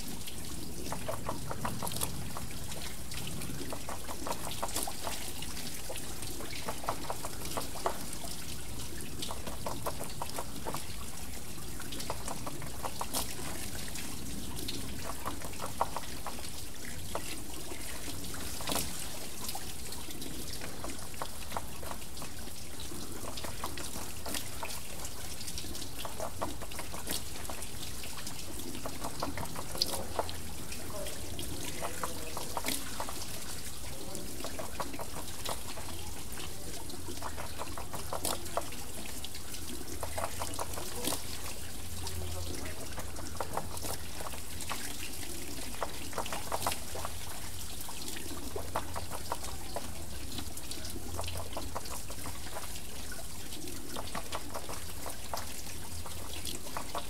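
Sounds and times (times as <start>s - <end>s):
water pouring off water wheel: 0.0s - 57.0s.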